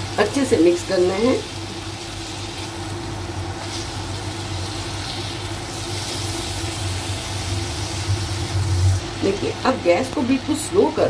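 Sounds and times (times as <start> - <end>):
steady low hum: 0.0 - 11.0
vegetables sizzling in a pan: 0.0 - 11.0.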